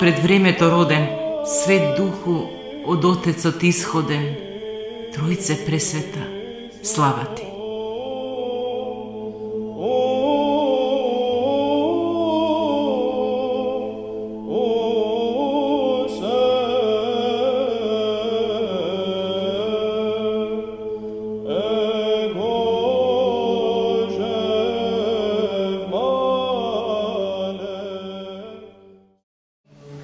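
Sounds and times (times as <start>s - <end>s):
held vocal drone: 0.0s - 29.1s
church chant melody: 0.0s - 30.0s.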